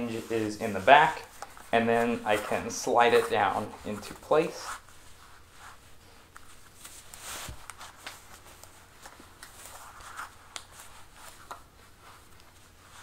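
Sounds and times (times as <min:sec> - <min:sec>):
belt rubbing against cloth: 0:00.0 - 0:13.0.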